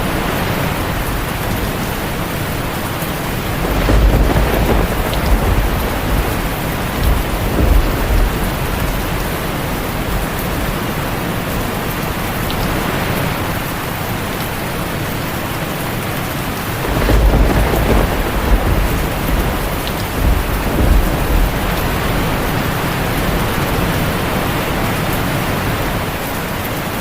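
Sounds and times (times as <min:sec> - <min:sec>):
thunder rumbling: 0:00.0 - 0:12.6, 0:16.4 - 0:26.3
heavy rain on a tin roof: 0:00.0 - 0:27.0.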